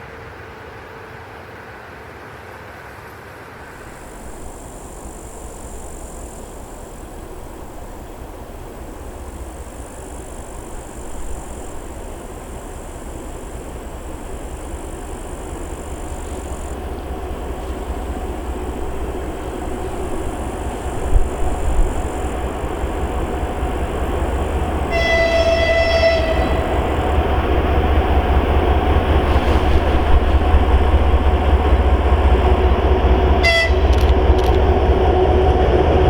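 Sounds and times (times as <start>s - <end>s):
freight train rumble: 0.0s - 36.0s
faint high whine: 3.6s - 36.0s.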